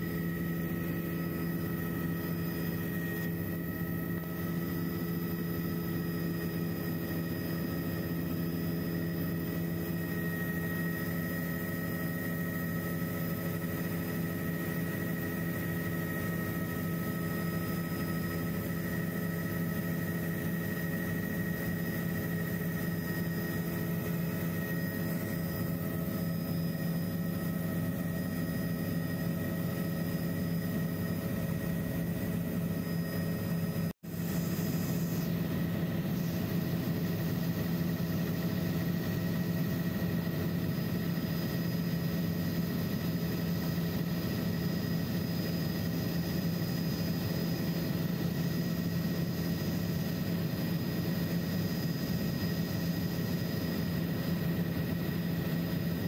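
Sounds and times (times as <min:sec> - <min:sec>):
helicopter cabin drone: 0:00.0 - 0:56.0.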